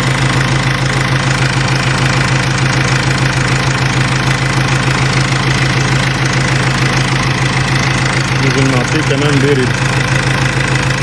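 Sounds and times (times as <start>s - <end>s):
diesel engine idling: 0.0s - 11.0s
radiator cooling fan: 0.0s - 11.0s.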